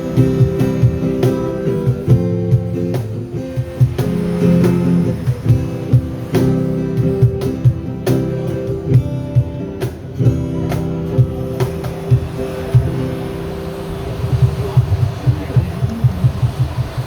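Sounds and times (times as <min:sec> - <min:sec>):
drum hits: 0:00.0 - 0:13.3, 0:14.1 - 0:17.0
strummed guitar chords: 0:00.0 - 0:17.0.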